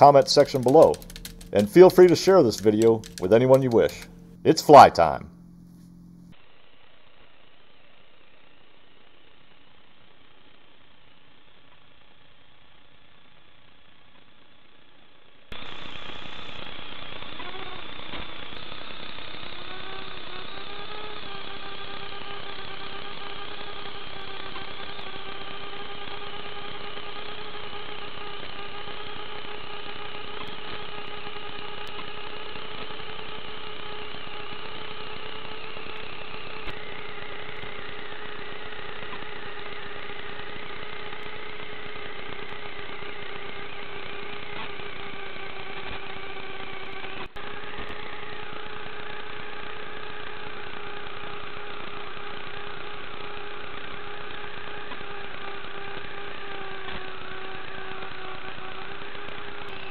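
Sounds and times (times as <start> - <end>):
drone motors humming: 0.0 - 12.9, 15.5 - 59.9.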